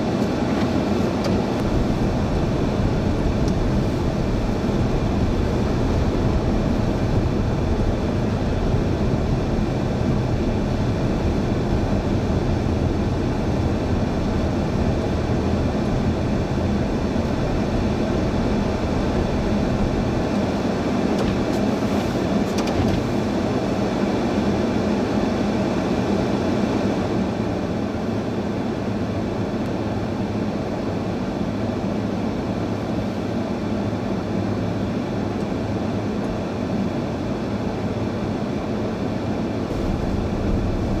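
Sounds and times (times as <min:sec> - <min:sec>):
vehicle running rumble and hiss: 0:00.0 - 0:41.0.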